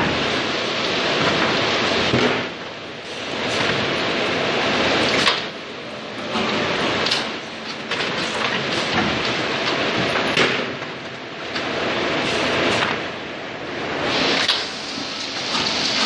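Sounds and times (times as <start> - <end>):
wooden pallets rumbling on conveyor: 0.0 - 16.0.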